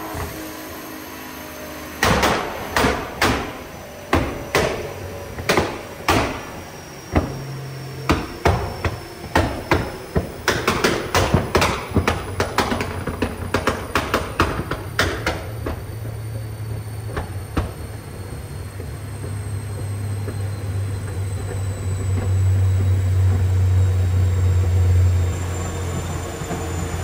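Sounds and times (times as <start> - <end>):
car engine running low: 0.0 - 27.0.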